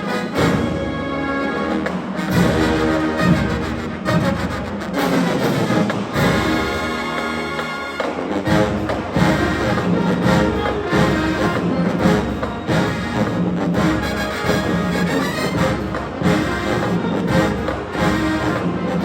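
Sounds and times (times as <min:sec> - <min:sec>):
marching band brass playing: 0:00.0 - 0:19.0.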